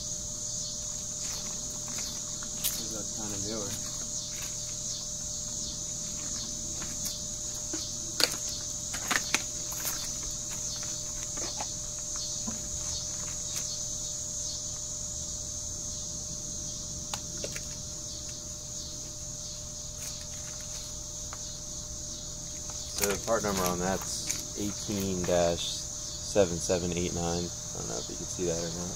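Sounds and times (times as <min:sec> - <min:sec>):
crickets chirping: 0:00.0 - 0:28.9.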